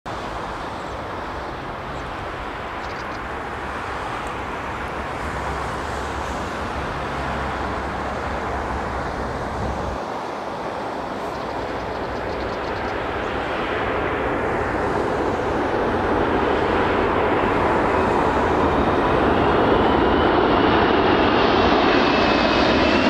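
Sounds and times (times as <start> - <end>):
distant jet engine roar: 0.1 - 23.0.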